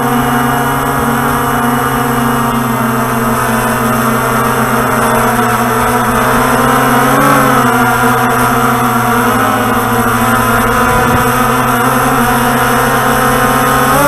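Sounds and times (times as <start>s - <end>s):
drone motors buzzing: 0.0s - 14.0s.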